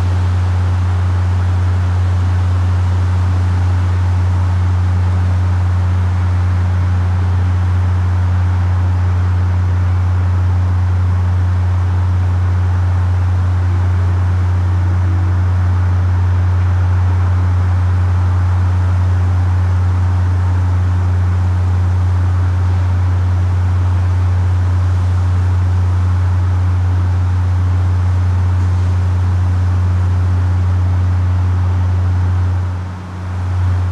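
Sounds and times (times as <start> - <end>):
constant hiss: 0.0 - 33.9
loud low-frequency hum: 0.0 - 33.9.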